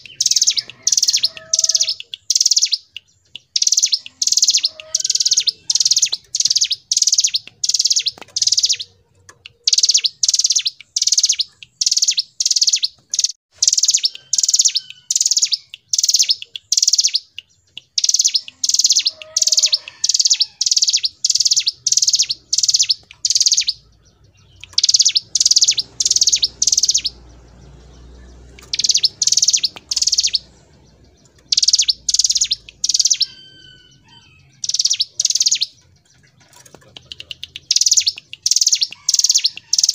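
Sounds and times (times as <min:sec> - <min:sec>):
bird singing high trills: 0:00.0 - 0:09.0, 0:09.6 - 0:39.9.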